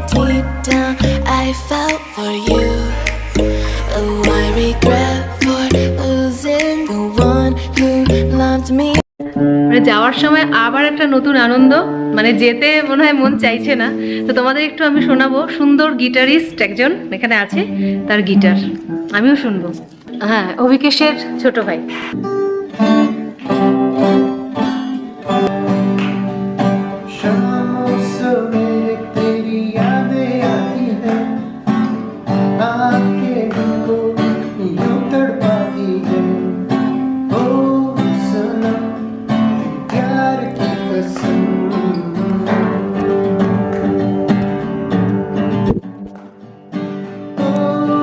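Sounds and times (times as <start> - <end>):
acoustic guitar chords: 0.0 - 48.0.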